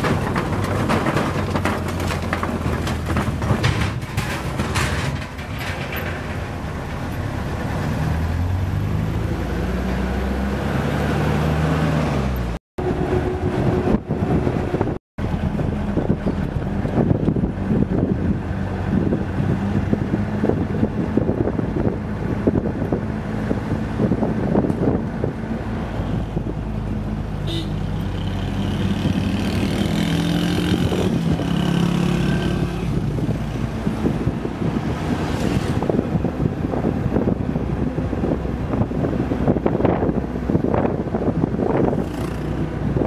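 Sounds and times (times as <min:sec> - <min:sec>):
road noise: 0:00.0 - 0:43.0.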